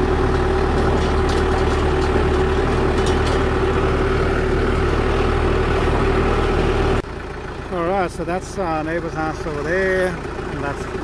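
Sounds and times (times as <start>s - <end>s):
constant droning tone: 0.0s - 11.0s
tractor diesel engine running: 0.0s - 11.0s.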